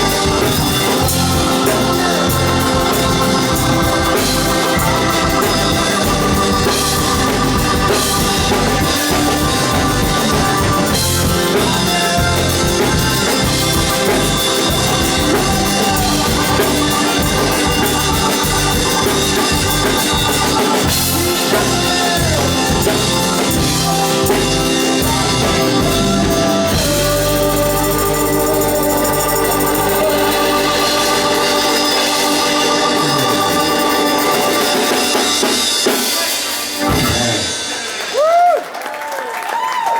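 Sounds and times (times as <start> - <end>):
organ: 0.0 - 38.4
blues-rock band playing: 0.0 - 38.6
drum kit: 0.0 - 38.7.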